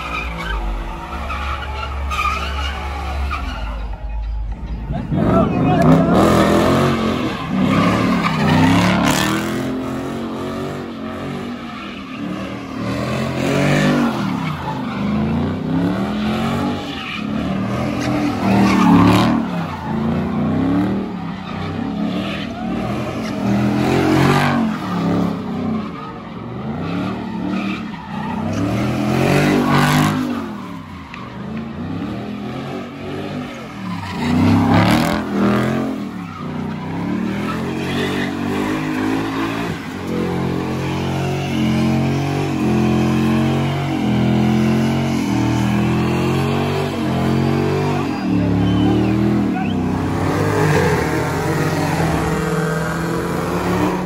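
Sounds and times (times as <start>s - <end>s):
car engines revving: 0.0s - 54.0s
tyres skidding: 0.0s - 54.0s.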